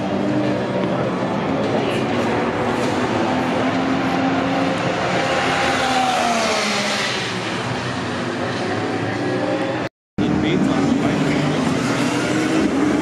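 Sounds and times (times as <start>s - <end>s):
racing car engines drone: 0.0s - 13.0s.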